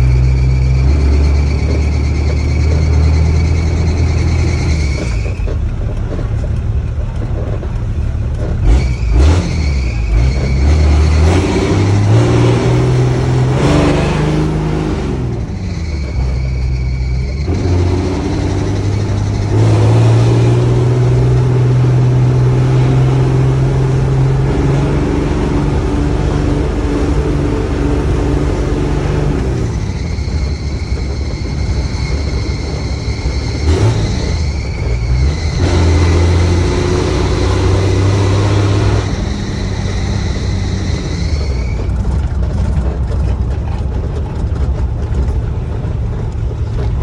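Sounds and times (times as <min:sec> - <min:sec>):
vehicle engine accelerating: 0:00.0 - 0:47.0.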